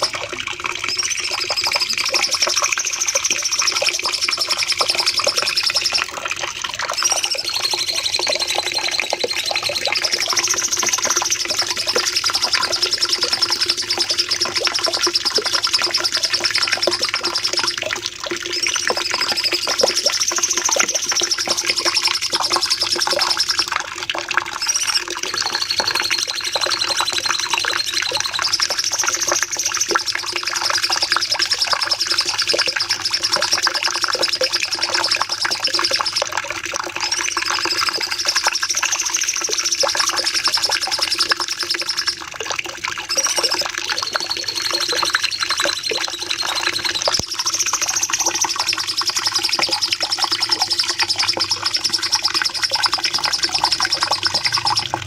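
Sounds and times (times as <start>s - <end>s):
bird high-pitched trilling: 0.8s - 6.2s, 6.9s - 17.8s, 18.5s - 23.7s, 24.5s - 36.3s, 43.1s - 55.0s.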